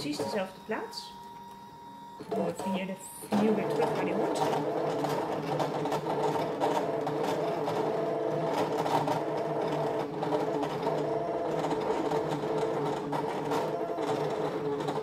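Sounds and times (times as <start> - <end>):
cutting machine motor whine: 0.0 - 15.0.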